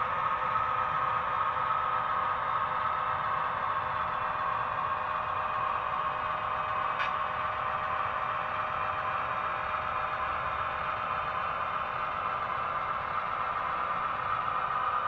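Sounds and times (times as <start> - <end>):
model train diesel engine sound: 0.0 - 15.0.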